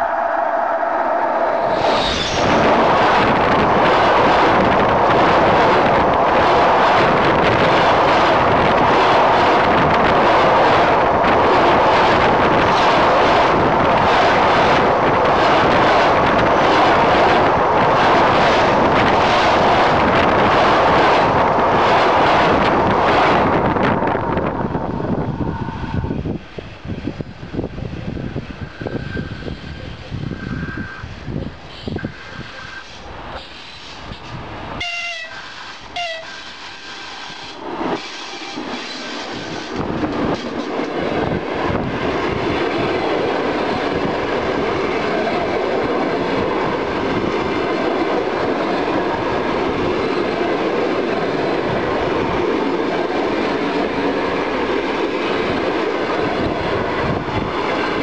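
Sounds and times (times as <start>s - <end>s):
train wheels rushing on rails: 0.0s - 58.0s.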